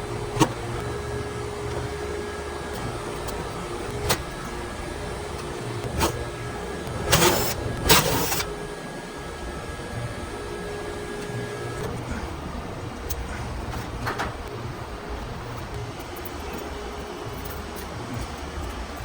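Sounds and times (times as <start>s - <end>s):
vacuum pump running: 0.0s - 19.0s.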